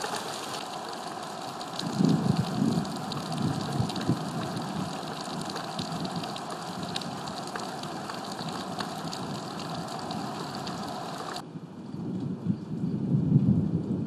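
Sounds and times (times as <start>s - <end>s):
rain hiss: 0.0s - 11.4s
raindrops ticking: 0.0s - 11.4s.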